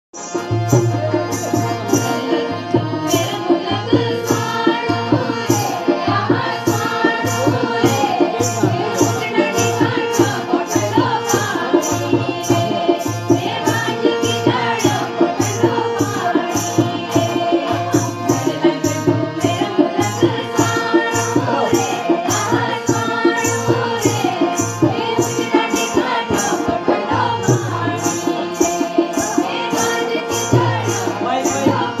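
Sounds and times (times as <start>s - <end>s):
percussion beat: 0.2s - 32.0s.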